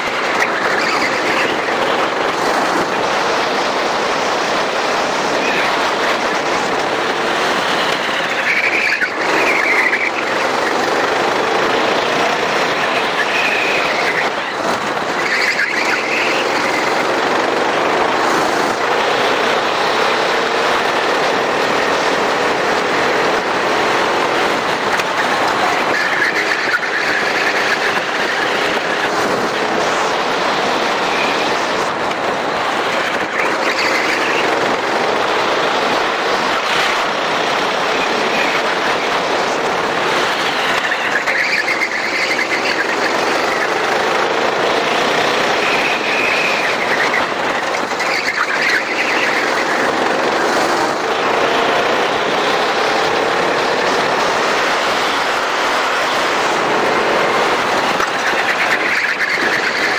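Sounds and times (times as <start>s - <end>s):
tyres squealing: 0.0s - 3.9s, 4.6s - 59.9s
kart engine running: 0.0s - 59.9s
wind and road noise: 0.0s - 59.9s.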